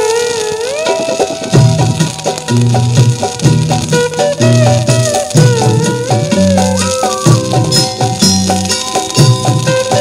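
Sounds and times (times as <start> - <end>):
film music from vinyl record: 0.0 - 10.0
drum and percussion beat: 0.1 - 10.0.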